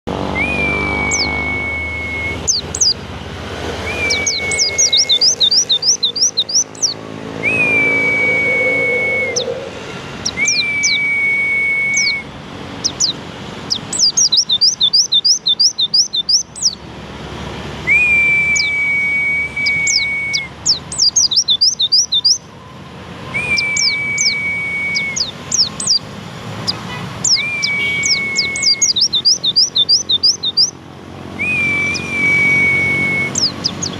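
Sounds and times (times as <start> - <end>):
songbird chirping: 0.2 - 11.2, 12.8 - 16.9, 17.9 - 22.6, 23.3 - 33.9
bird long level whistle: 0.3 - 3.0, 3.8 - 16.8, 17.9 - 22.5, 23.2 - 26.0, 26.7 - 30.8, 31.4 - 33.9.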